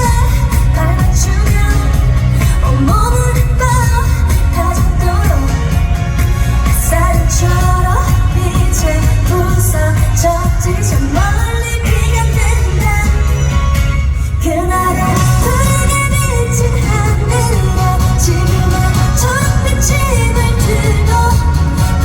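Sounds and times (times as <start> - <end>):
backing music with bass: 0.0 - 22.0
woman singing pop song: 0.0 - 22.0.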